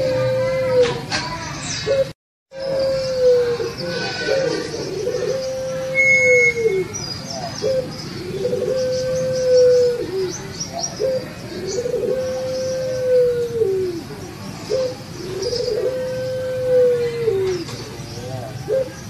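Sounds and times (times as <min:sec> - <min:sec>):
dove cooing: 0:00.0 - 0:01.0, 0:01.9 - 0:19.0
small birds chirping: 0:01.2 - 0:16.4, 0:17.0 - 0:19.0.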